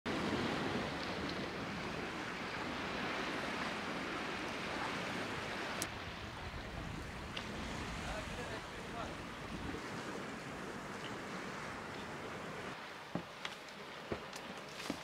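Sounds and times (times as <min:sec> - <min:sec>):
wind: 0:00.0 - 0:15.0
sea waves: 0:00.1 - 0:15.0.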